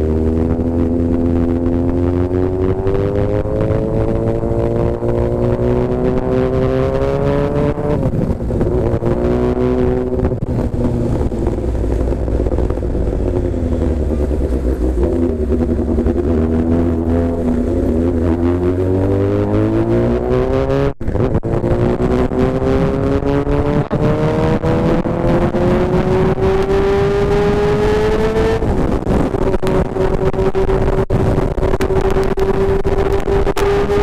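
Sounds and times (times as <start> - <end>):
low wind: 0.0 - 34.0
motorcycle engine revving: 0.0 - 34.0
road rumble: 0.0 - 34.0.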